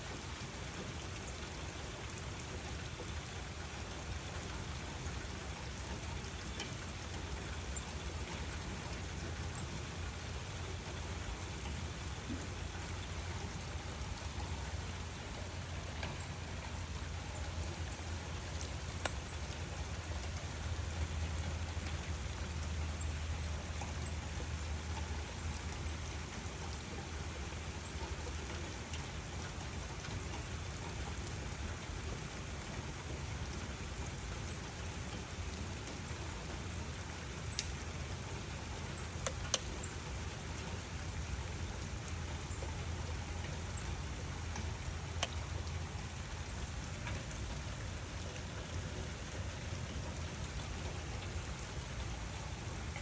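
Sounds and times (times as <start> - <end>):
raindrops ticking: 0.0 - 53.0
steady rain falling: 0.0 - 53.0.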